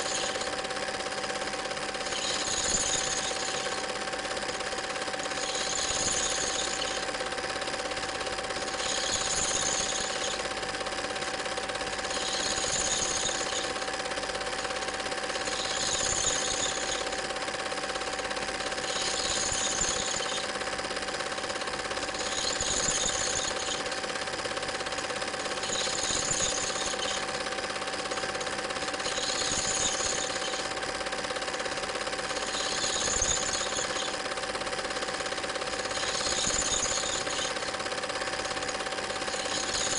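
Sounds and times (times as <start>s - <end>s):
film projector rattling: 0.0s - 39.9s.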